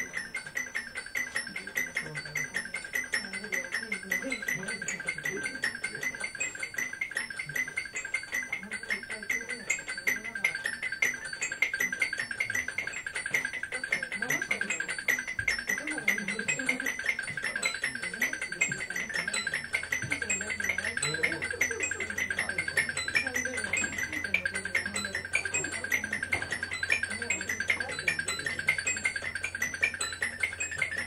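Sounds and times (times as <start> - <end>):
steady high tone: 0.0 - 31.0.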